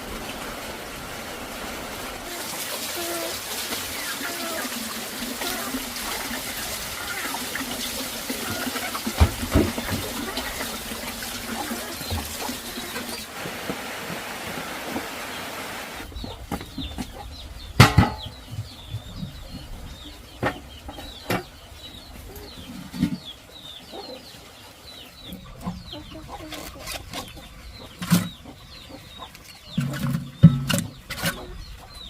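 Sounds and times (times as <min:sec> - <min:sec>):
small birds chirping: 0:02.3 - 0:13.3, 0:15.2 - 0:32.0.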